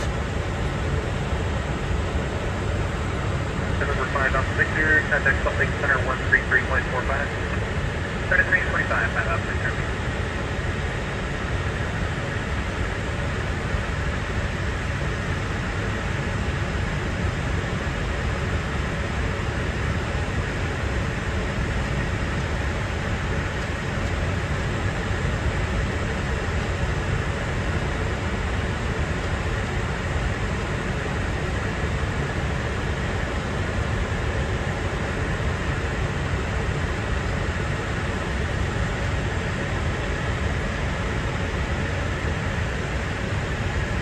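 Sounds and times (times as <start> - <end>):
airflow and engine noise: 0.0 - 44.0.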